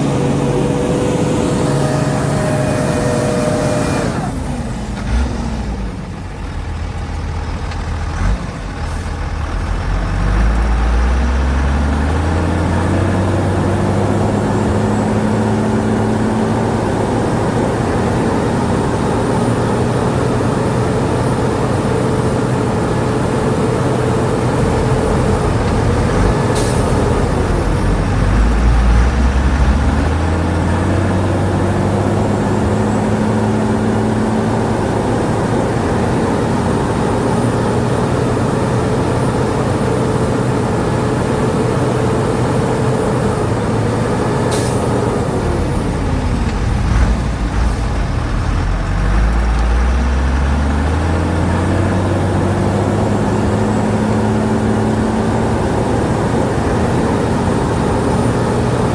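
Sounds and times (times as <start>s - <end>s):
heavy diesel engine revving: 0.0s - 58.9s.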